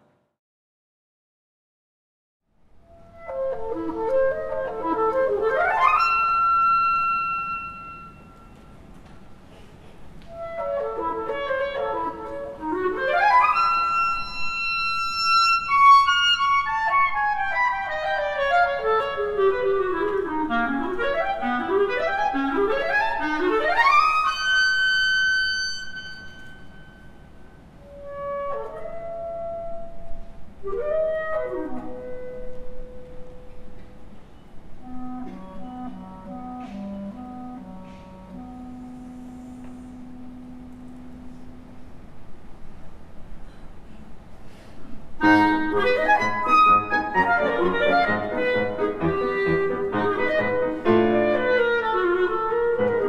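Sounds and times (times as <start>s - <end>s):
solo wind instrument: 2.7s - 9.2s, 10.2s - 42.2s, 45.2s - 53.0s.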